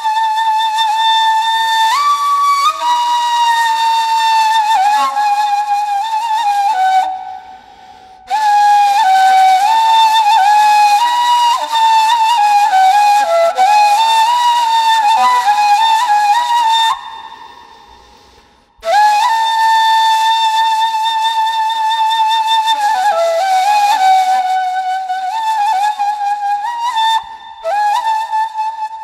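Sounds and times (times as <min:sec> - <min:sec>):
solo flute slow melody: 0:00.0 - 0:29.0.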